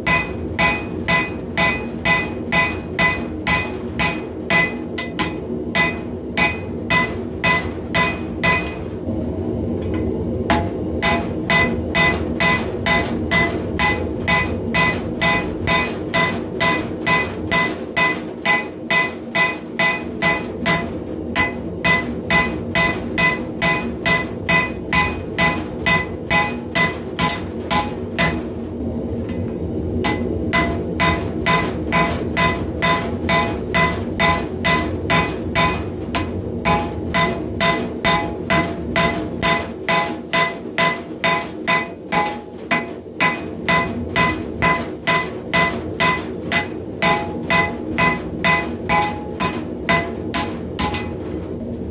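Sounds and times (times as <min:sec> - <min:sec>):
anvil ringing: 0:00.0 - 0:08.8, 0:10.5 - 0:28.4, 0:30.0 - 0:51.2
hammer striking steel on anvil: 0:00.0 - 0:08.9, 0:09.9 - 0:28.5, 0:30.0 - 0:51.2.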